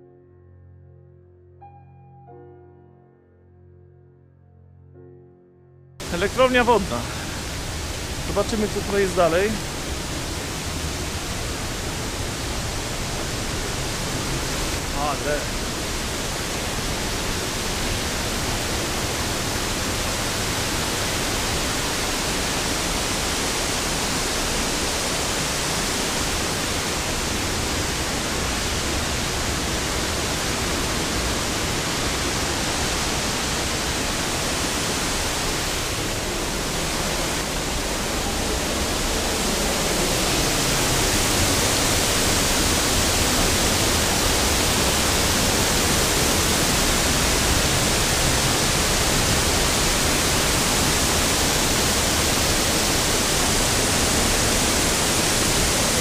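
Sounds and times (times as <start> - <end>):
water rushing: 6.0 - 56.0.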